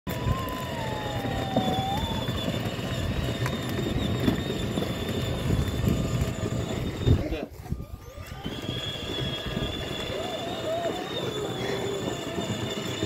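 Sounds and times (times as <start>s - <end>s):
electric motor whine: 0.1s - 13.0s
plastic wheels rumbling on paving: 0.1s - 13.0s.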